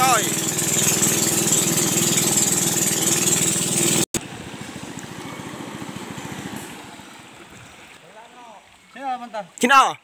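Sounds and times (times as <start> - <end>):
motorboat engine running: 0.0 - 8.0.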